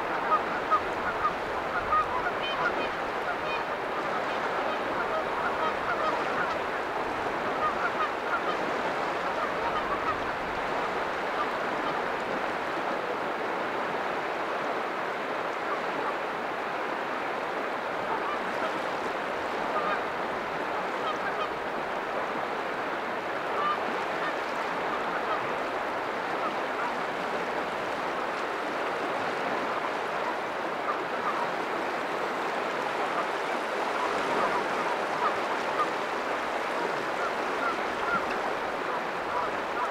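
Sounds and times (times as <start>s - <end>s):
sea surf on rocky shore: 0.0s - 39.9s.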